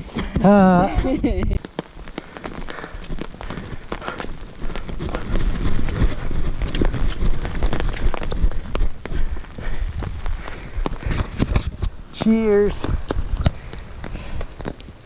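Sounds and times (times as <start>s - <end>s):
low rumble of wind on microphone: 0.0s - 15.0s
rain falling: 0.0s - 15.0s.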